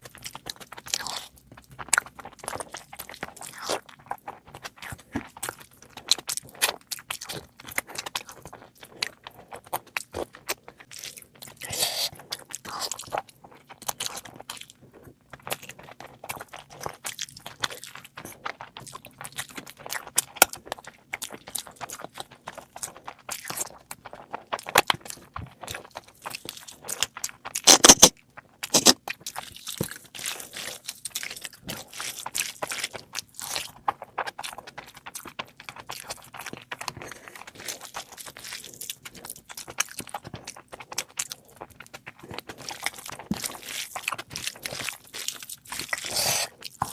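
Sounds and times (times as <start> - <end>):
person chewing and crunching: 0.0 - 46.9.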